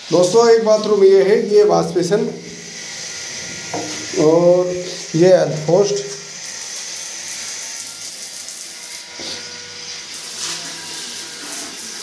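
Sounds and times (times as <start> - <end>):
water spraying into toilet bowl: 0.0 - 9.4, 10.1 - 12.0.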